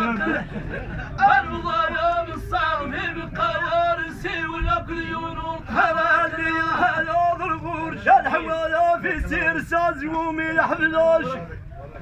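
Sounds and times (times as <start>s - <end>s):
man chanting in sung melody: 1.4s - 11.5s.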